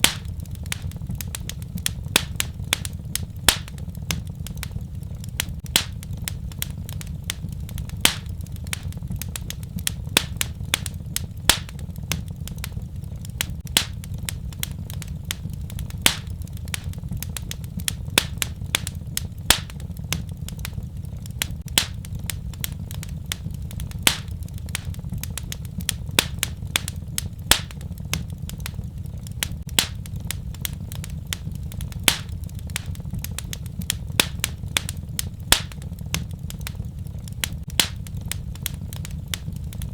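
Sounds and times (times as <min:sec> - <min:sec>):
fire pops and snaps: 0:00.0 - 0:39.9
low rumble of flames: 0:00.0 - 0:39.9.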